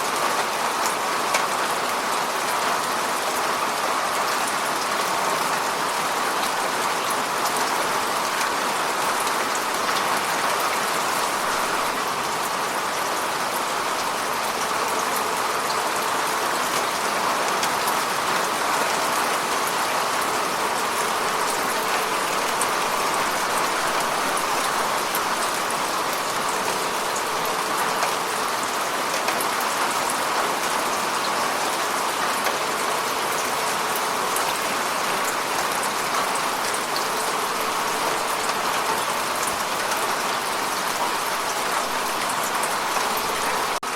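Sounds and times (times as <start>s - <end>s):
heavy rain on hard surfaces: 0.0s - 43.9s.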